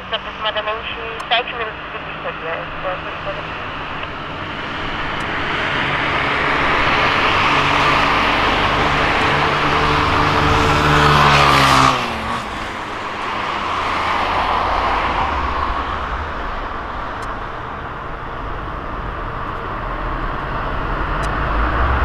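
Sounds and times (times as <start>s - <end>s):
traffic noise: 0.0s - 22.0s
vehicle engine passing by: 2.2s - 22.0s.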